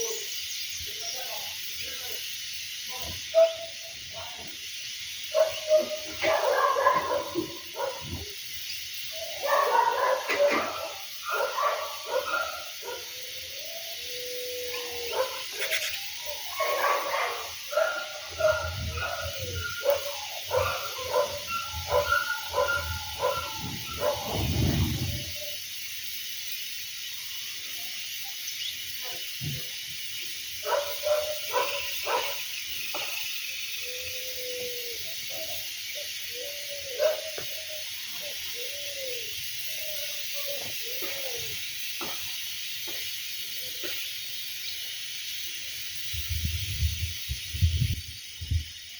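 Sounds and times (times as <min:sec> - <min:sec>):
steady high hiss: 0:00.0 - 0:48.9.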